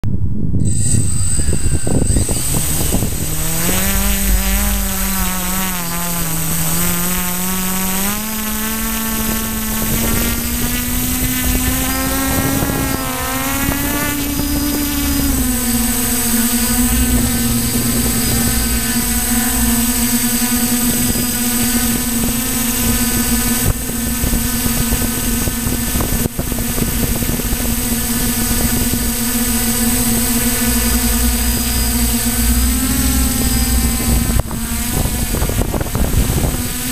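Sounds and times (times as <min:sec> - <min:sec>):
drone motors and propellers whining: 0:00.0 - 0:36.9.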